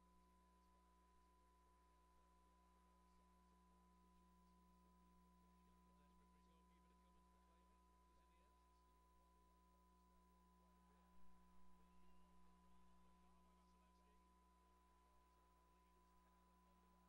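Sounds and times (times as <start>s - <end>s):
faint electrical hum: 0.0s - 17.0s
thin constant tone: 0.0s - 17.0s.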